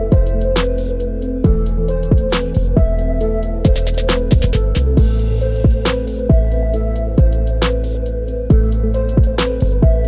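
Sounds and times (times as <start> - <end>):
kick drums: 0.0 - 0.6, 1.4 - 7.8, 8.4 - 10.0
hi-hat ticks: 0.0 - 10.0.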